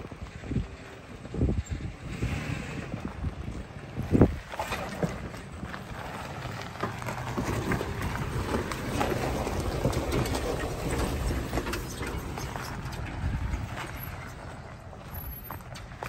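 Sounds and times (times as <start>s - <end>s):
engine running at low revs: 0.0s - 16.0s
tyres crunching on loose stones: 2.9s - 16.0s.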